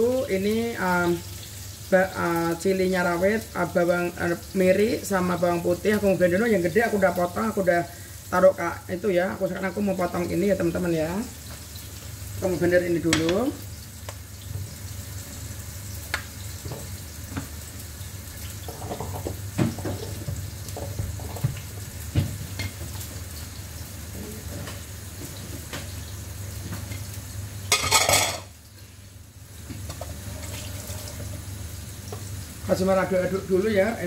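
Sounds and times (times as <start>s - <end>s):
shallots sizzling in a wok: 0.0s - 34.0s.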